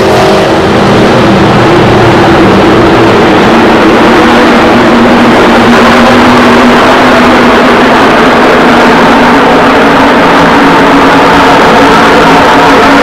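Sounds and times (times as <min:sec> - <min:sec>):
racing car engines drone: 0:00.0 - 0:13.0.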